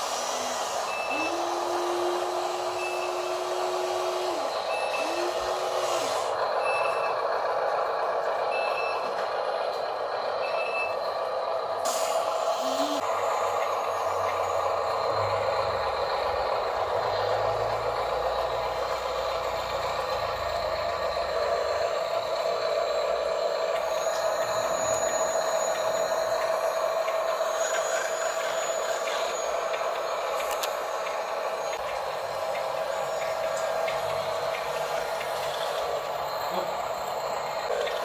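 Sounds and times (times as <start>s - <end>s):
electric motors whining: 0.0s - 6.5s, 12.3s - 38.0s.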